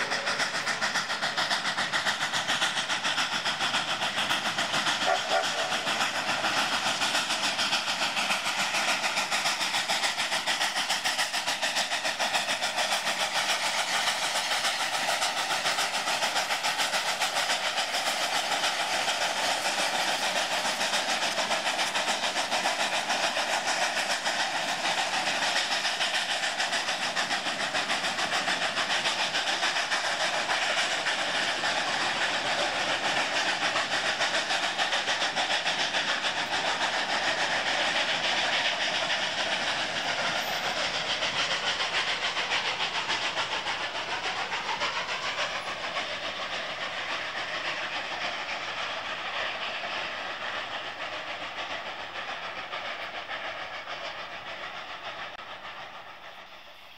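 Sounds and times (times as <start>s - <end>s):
steam locomotive exhaust and hiss: 0.0s - 56.9s
train running on rails: 0.0s - 56.9s.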